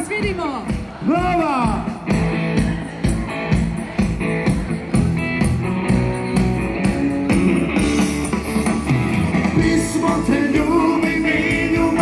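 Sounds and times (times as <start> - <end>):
drum beat: 0.0 - 12.0
guitar: 0.0 - 12.0.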